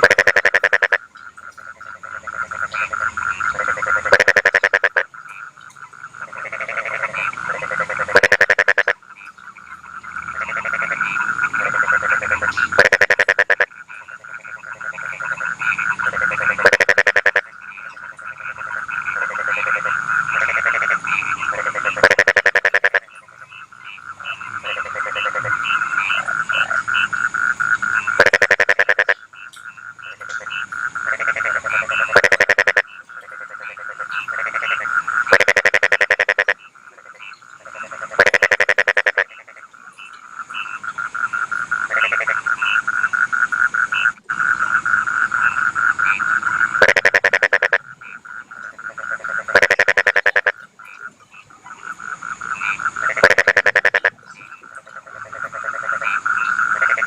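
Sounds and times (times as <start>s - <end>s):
frogs croaking loudly: 0.0s - 57.0s.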